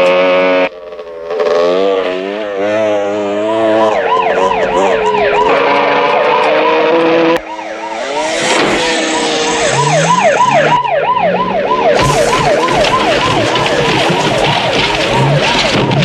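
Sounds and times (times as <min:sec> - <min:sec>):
vehicle engine running: 0:00.0 - 0:16.0
police sirens wailing and yelping: 0:02.4 - 0:16.0.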